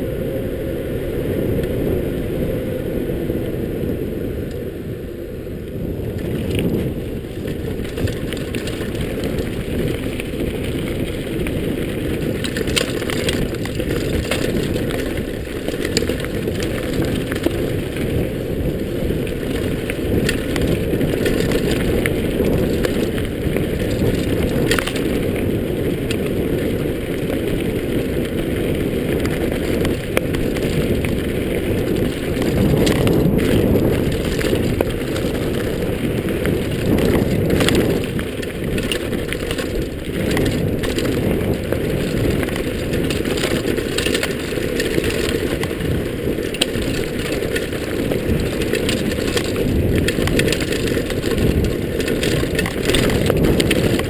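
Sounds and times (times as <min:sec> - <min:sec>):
bike tyres rumbling on gravel: 0:00.0 - 0:54.0.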